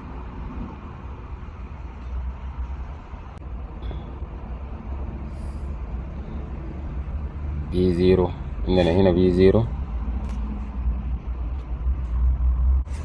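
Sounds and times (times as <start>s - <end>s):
engine running with low rumble: 0.0s - 13.0s.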